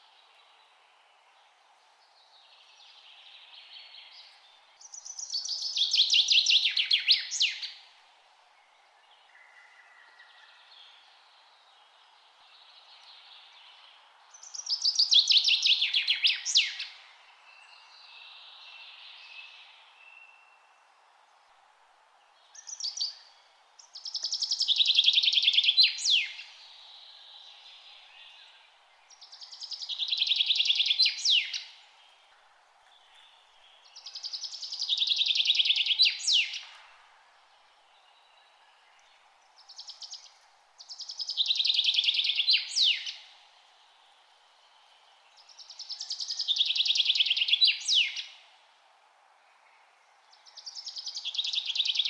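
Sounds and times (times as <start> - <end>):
songbird trilling song: 2.2 - 7.9, 8.6 - 20.8, 22.4 - 36.9, 37.5 - 48.5, 49.5 - 52.0.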